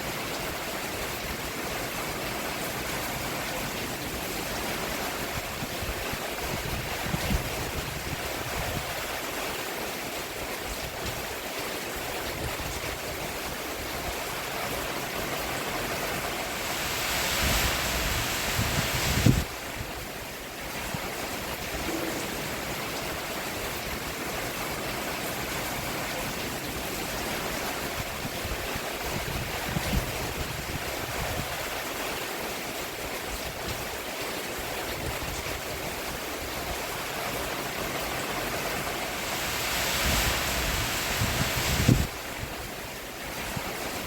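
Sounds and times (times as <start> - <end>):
rain on a roof: 0.0 - 44.0.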